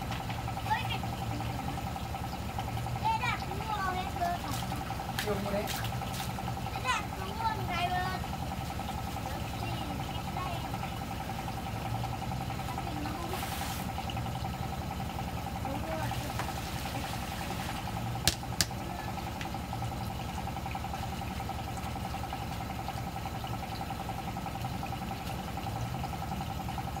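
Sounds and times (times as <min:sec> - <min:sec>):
motor hum: 0:00.0 - 0:27.0
water running in stream: 0:00.0 - 0:27.0.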